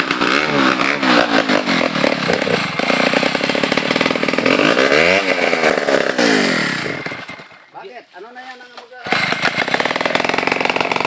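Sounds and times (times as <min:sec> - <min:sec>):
chainsaw revving: 0:00.0 - 0:07.7, 0:09.0 - 0:11.0.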